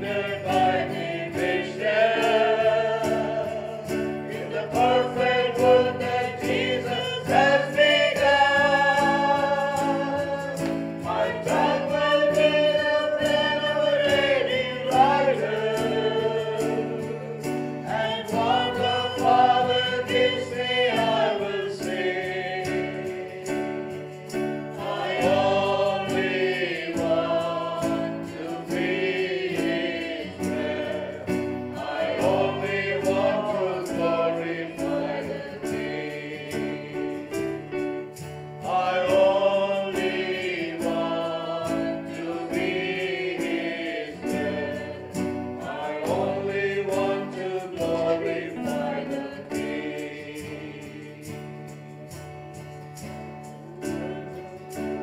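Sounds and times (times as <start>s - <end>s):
choir singing a worship song: 0.0s - 55.0s.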